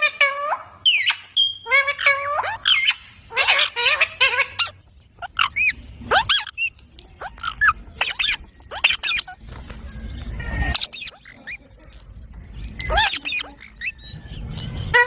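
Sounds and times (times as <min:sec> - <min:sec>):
parrot squawking and chattering: 0:00.0 - 0:15.0.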